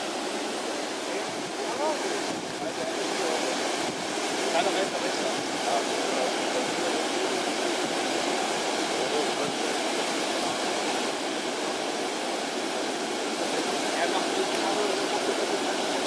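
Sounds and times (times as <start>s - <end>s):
water rushing over embankment: 0.0s - 16.0s.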